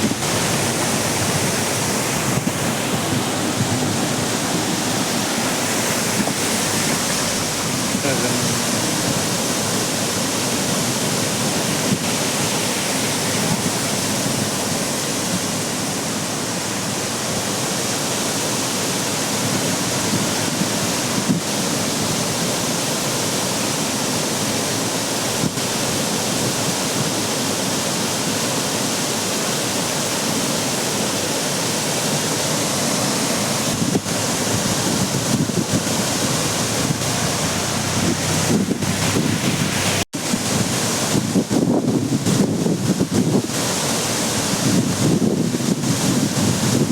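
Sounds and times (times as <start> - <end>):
floodwater rushing across road: 0.0 - 46.9.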